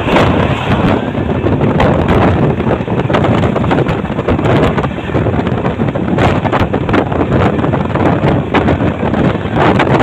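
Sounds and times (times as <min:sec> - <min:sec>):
train wheels rumbling on rails: 0:00.0 - 0:10.0
wind buffeting microphone: 0:00.0 - 0:10.0.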